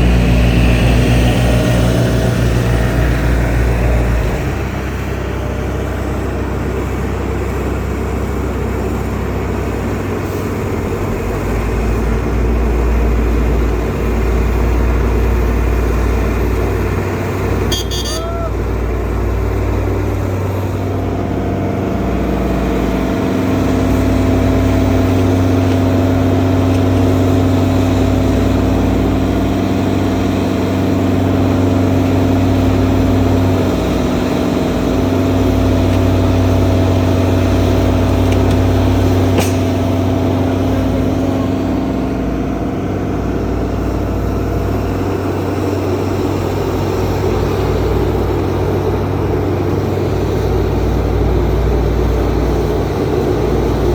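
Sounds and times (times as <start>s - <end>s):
large engine droning: 0.0s - 53.9s.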